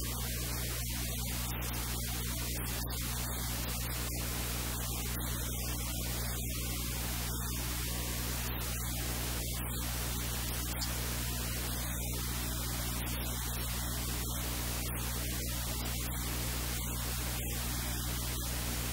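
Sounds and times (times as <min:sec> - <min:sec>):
low electrical hum: 0:00.0 - 0:18.9
static hiss: 0:00.0 - 0:18.9.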